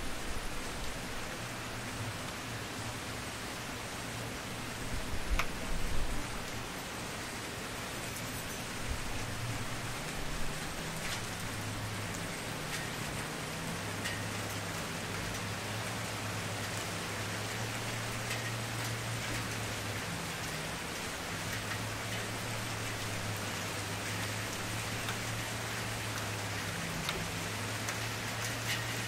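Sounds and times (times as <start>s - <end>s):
bonfire hissing and crackling: 0.0s - 29.0s.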